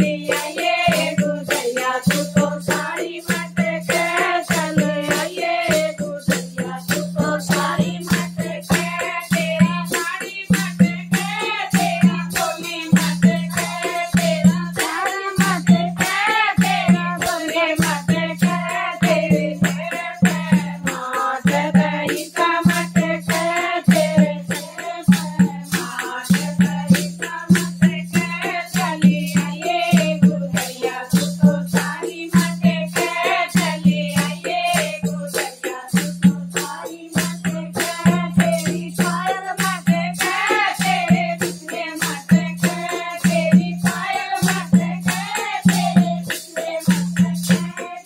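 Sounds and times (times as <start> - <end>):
rhythmic hand-clapping: 0.0 - 48.0
women singing: 0.0 - 48.0.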